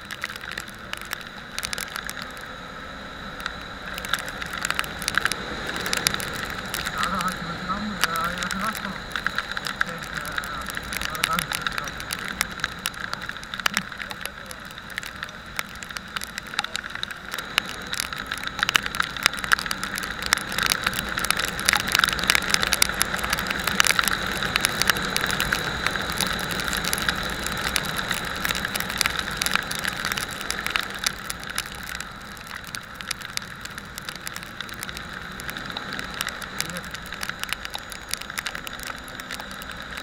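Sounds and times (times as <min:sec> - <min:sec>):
crackling and rattling: 0:00.0 - 0:02.6, 0:03.3 - 0:40.0
wind and road noise: 0:00.0 - 0:40.0.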